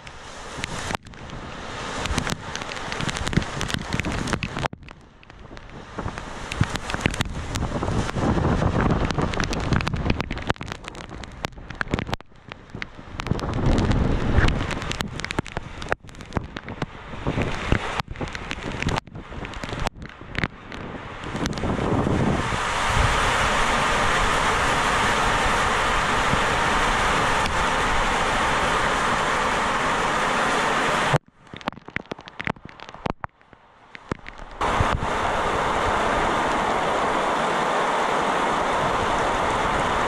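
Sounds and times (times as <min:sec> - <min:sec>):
wind gusts buffeting microphone: 0:00.0 - 0:31.2, 0:34.1 - 0:40.0
heavy rain: 0:00.0 - 0:40.0.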